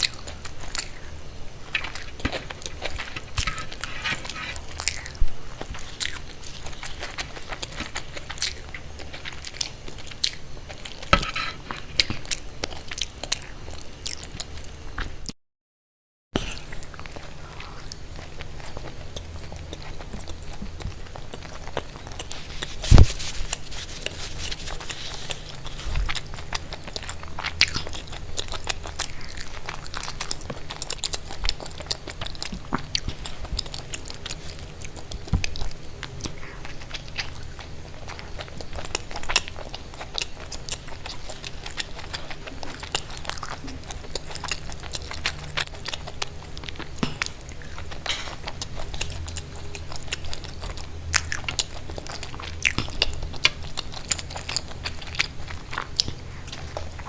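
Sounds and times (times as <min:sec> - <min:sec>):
crunchy bites and chewing: 0:00.0 - 0:15.2, 0:16.4 - 0:57.0.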